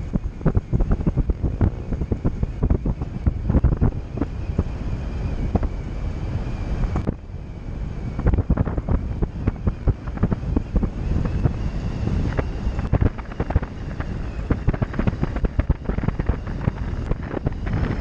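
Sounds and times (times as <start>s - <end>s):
wind buffeting camera microphone: 0.0s - 18.0s.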